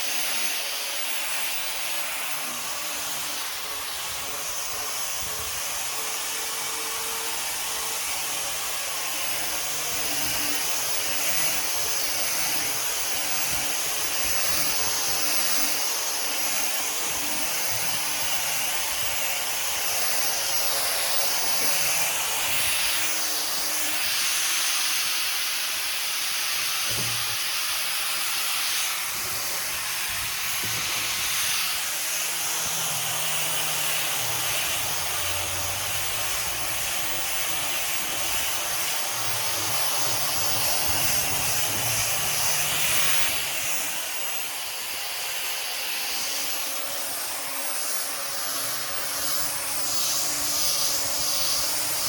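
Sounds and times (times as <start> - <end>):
orbital sander on wood: 0.0 - 52.0.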